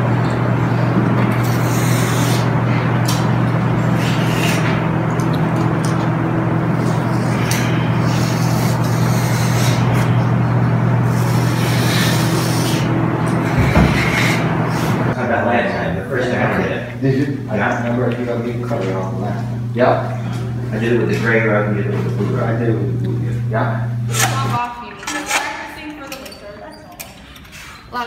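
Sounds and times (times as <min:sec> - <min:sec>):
machine drone with hiss: 0:00.0 - 0:24.6.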